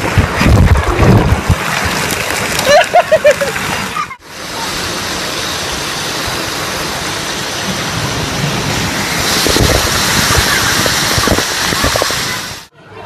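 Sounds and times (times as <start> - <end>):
falling water hissing: 0.0 - 12.7
water splashing: 0.0 - 12.7.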